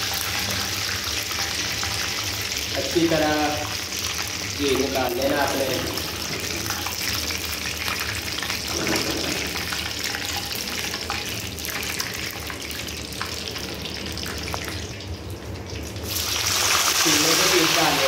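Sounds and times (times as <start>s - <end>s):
chicken sizzling in hot fat: 0.0s - 18.0s.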